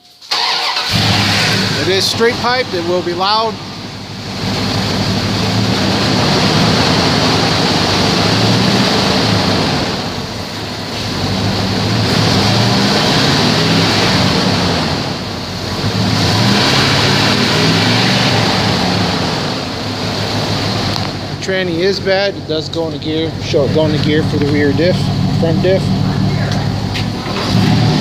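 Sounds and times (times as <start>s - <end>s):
loud truck engine revving: 0.3s - 28.0s.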